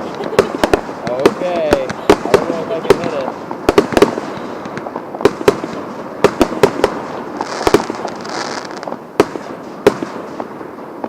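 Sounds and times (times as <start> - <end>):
firecracker bangs: 0.0 - 11.0.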